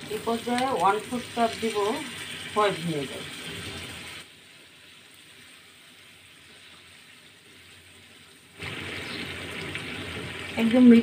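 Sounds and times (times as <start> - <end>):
pickle bubbling and sizzling in pan: 0.0 - 11.0.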